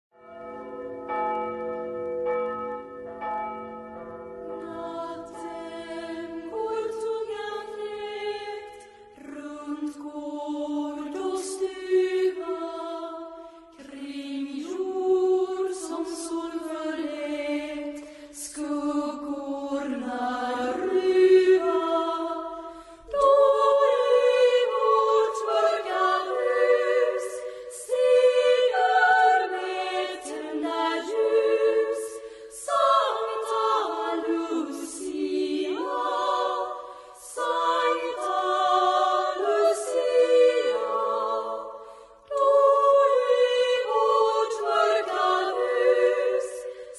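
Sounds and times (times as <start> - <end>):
girls' choir singing: 4.5 - 46.9.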